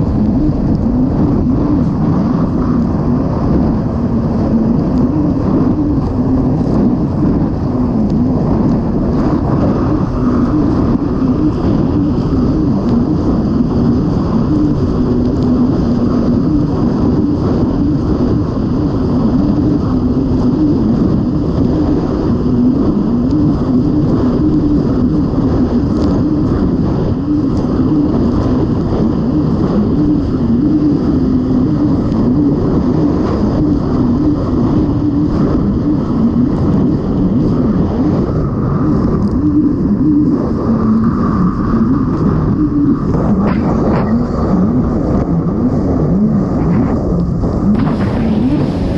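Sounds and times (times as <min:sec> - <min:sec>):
watercraft engine running hard: 0:00.0 - 0:48.9
wind noise on microphone: 0:00.0 - 0:48.9.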